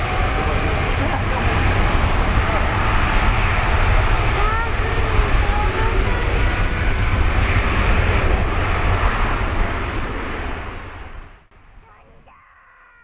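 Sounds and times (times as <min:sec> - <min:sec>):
jet airliner takeoff rumble: 0:00.0 - 0:12.4.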